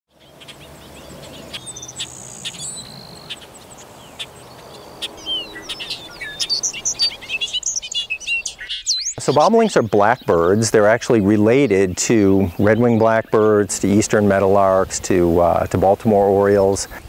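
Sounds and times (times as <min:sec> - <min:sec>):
birds chirping and whistling: 0:00.1 - 0:17.0.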